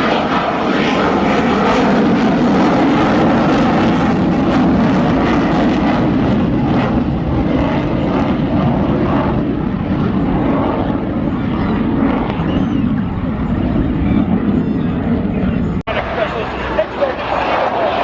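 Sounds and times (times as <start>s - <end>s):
jet engine rushing: 0.0s - 18.0s.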